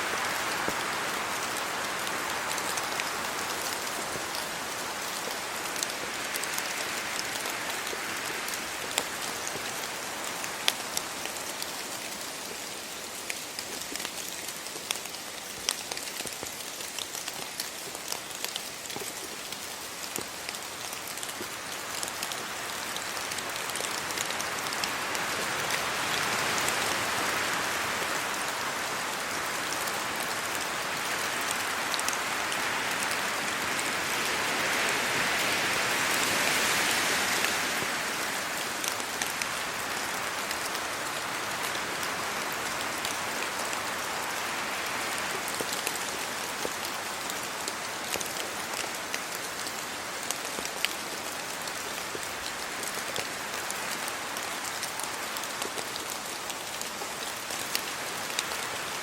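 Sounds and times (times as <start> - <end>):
steady rain falling: 0.0 - 59.0
raindrops ticking close by: 0.1 - 59.0.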